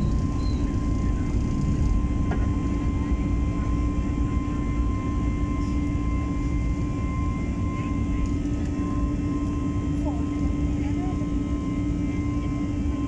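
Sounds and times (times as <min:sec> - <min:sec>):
jet engine and airflow drone: 0:00.0 - 0:13.0.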